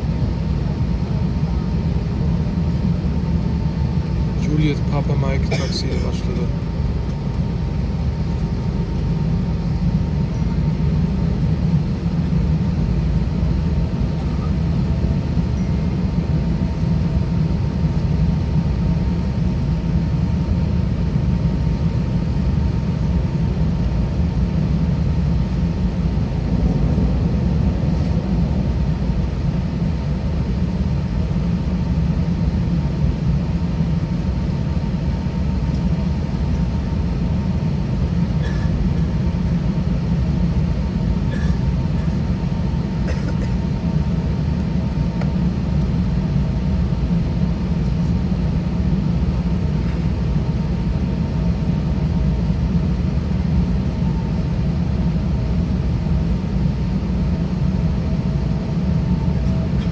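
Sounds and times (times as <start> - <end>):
aircraft cabin low rumble: 0.0 - 59.9.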